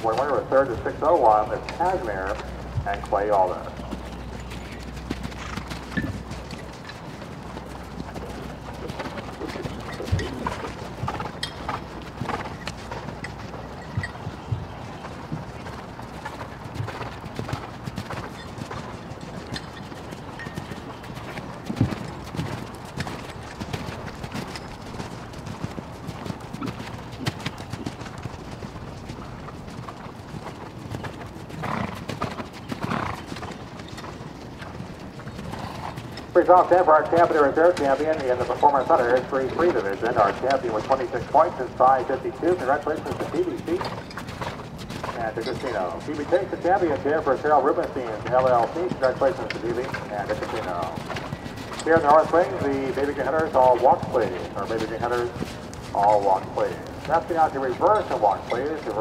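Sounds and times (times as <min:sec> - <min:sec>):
horses' hooves thudding: 0:00.0 - 0:59.0.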